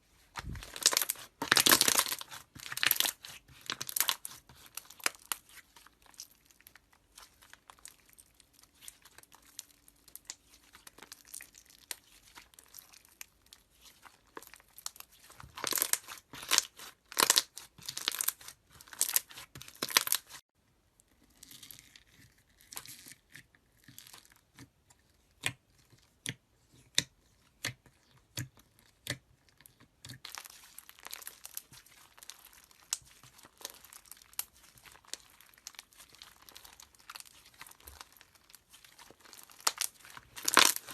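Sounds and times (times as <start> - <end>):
slime crackling and popping: 0.4 - 20.4, 27.6 - 40.9.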